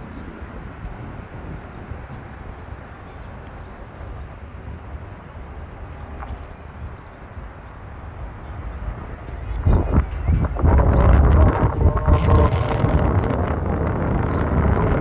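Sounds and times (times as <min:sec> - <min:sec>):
street ambience rumble: 0:00.0 - 0:15.0.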